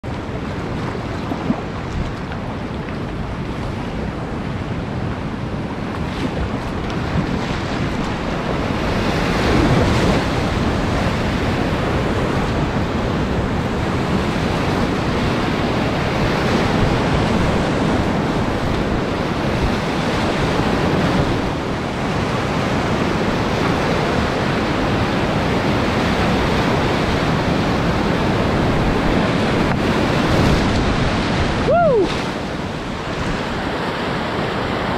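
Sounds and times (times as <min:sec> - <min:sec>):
wind buffeting microphone: 0:00.0 - 0:34.9
whitewater rushing: 0:00.1 - 0:34.9.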